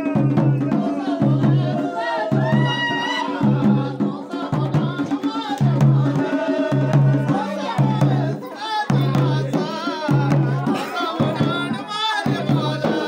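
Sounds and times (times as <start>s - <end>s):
deep drum beating: 0.0s - 13.0s
wavering singing voice: 0.0s - 13.0s.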